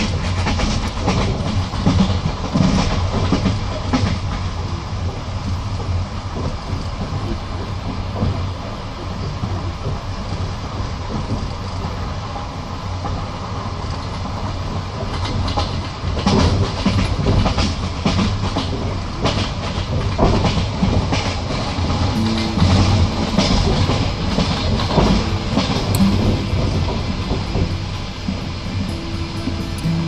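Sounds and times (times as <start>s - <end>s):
train wheels rumbling on rails: 0.0s - 30.0s
wheels clacking over rail joints: 0.0s - 30.0s.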